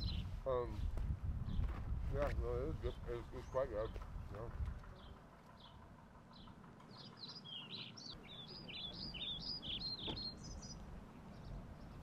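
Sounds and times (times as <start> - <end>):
songbird chirping: 0.0 - 1.8, 2.6 - 12.0.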